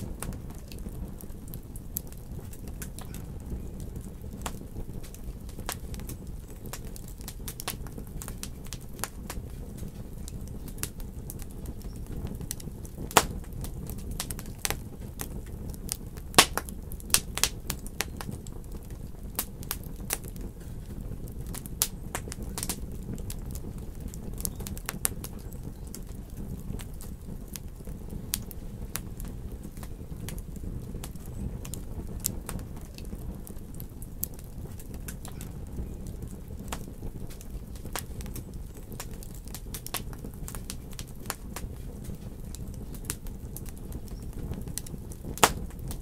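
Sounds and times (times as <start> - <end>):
loud fire snaps: 0.0 - 46.0
wood fire crackling: 0.0 - 46.0.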